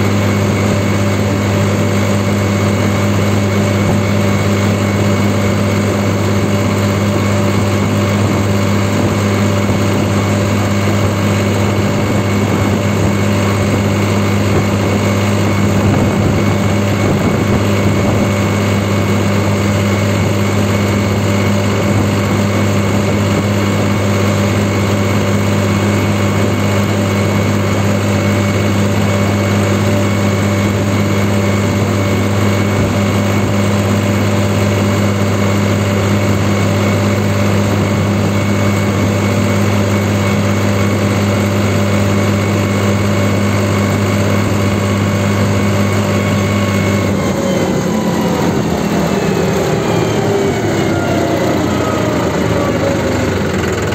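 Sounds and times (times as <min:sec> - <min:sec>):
tractor diesel engine droning: 0:00.0 - 0:53.9.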